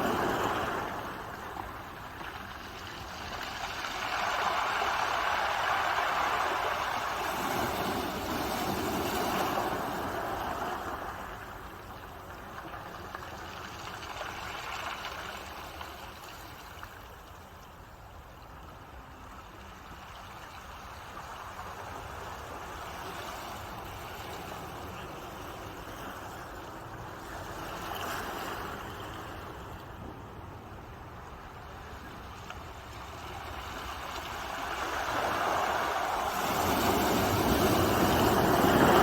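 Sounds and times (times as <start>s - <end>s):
ocean waves washing onto shore: 0.0s - 39.0s.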